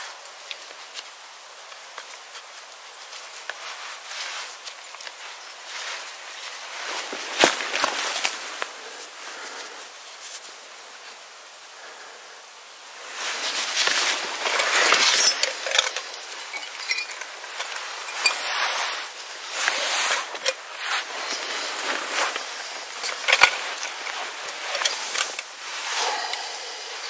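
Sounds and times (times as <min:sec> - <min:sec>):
scraping and rustling: 0:00.0 - 0:11.2, 0:13.0 - 0:27.0.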